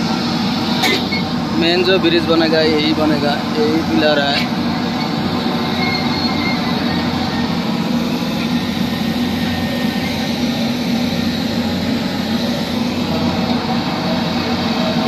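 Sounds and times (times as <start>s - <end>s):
heavy machinery engine droning: 0.0s - 15.0s.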